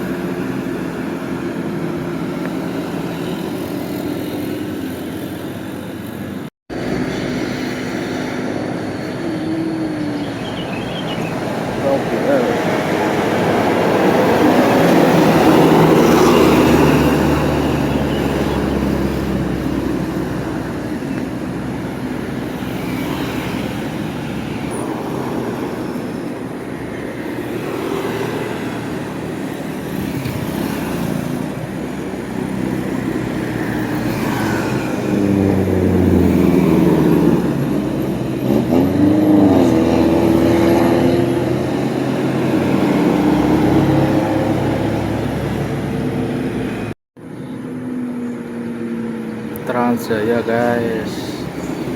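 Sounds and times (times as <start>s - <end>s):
vehicles passing by: 0.0s - 51.9s.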